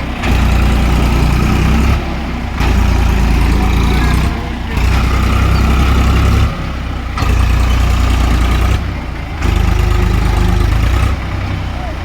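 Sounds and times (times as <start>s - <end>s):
tractor diesel engine throbbing: 0.0s - 12.0s.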